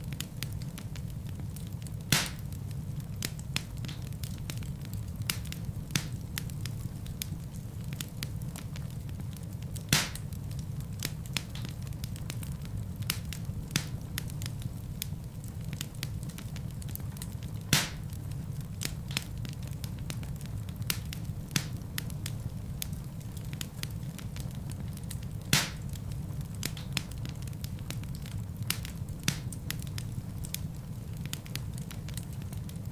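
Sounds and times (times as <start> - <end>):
fire crackling and popping: 0.0 - 32.9
low rumble of flames: 0.0 - 32.9.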